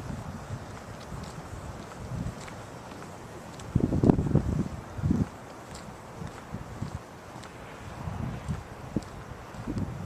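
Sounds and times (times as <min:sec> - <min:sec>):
faint steady hiss: 0:00.0 - 0:10.0
wind buffeting microphone: 0:00.0 - 0:10.0.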